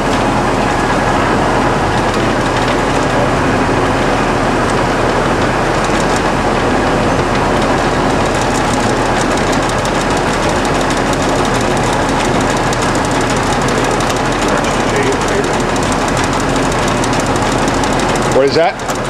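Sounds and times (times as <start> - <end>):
lathe running with low hum: 0.0 - 19.0.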